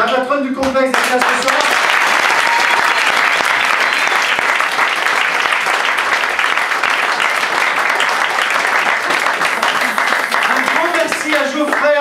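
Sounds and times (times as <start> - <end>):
audience applause: 0.9 - 12.0.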